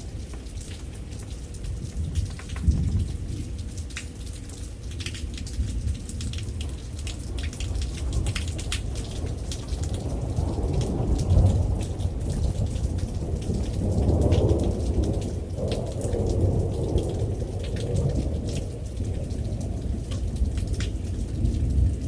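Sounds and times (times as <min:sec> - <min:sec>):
raindrops ticking close by: 0:00.0 - 0:22.0
steady rain: 0:00.0 - 0:22.0
thunder rumbling: 0:01.7 - 0:03.8, 0:05.5 - 0:22.0.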